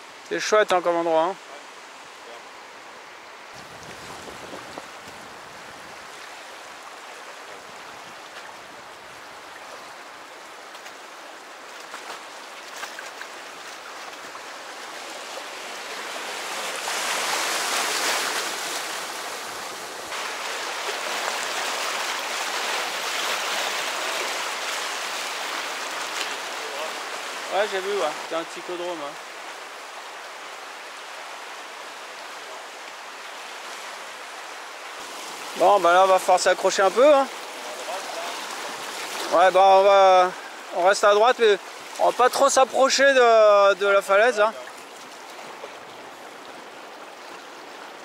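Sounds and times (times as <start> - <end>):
rushing river water: 0.0 - 48.0.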